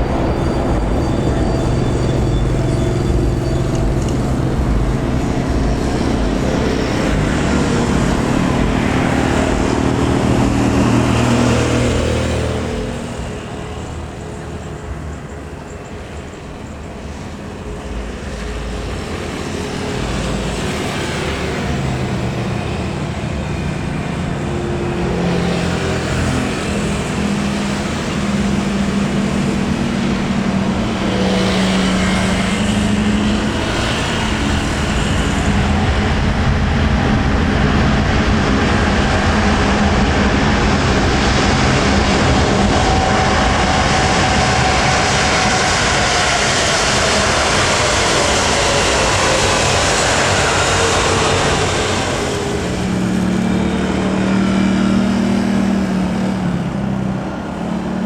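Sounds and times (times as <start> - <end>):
jet engine noise: 0.0 - 58.0.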